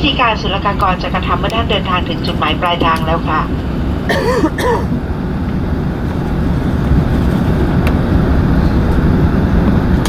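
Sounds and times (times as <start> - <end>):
aircraft cabin rumble: 0.0 - 10.0.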